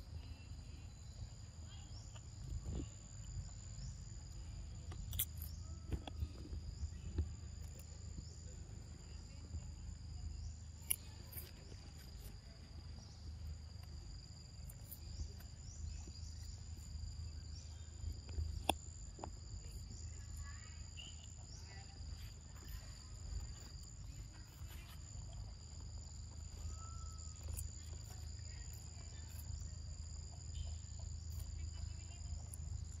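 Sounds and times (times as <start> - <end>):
insects droning high-pitched: 0.0 - 33.0.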